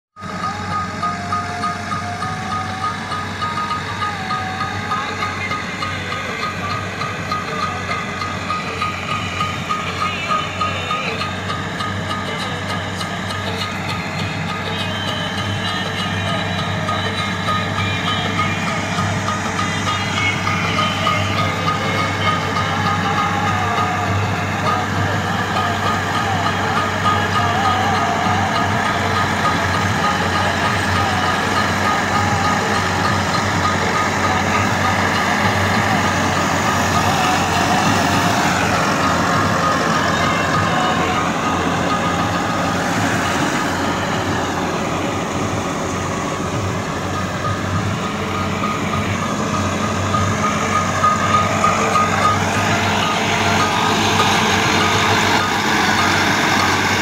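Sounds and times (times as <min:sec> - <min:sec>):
tractor diesel engine drone: 0:00.0 - 0:57.0
machine noise: 0:00.1 - 0:57.0.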